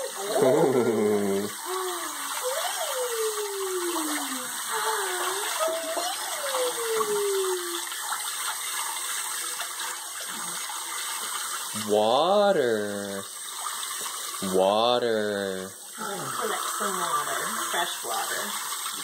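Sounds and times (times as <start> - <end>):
faucet running into sink: 0.0 - 19.0.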